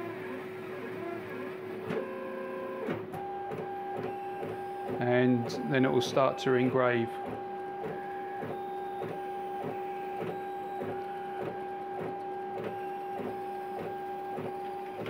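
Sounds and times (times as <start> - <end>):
laser cutter motors whining: 0.0 - 15.0.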